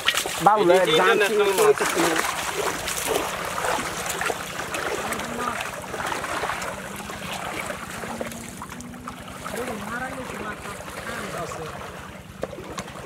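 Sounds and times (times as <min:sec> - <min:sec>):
people wading through muddy water: 0:00.0 - 0:13.0
small water splashes: 0:00.0 - 0:13.0.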